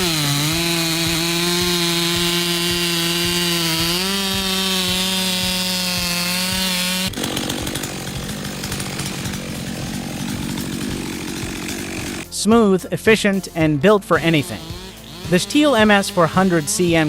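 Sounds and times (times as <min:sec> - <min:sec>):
chainsaw engine high whine: 0:00.0 - 0:12.3, 0:13.3 - 0:17.0
harsh noisy grinding: 0:00.0 - 0:12.3, 0:13.2 - 0:17.0.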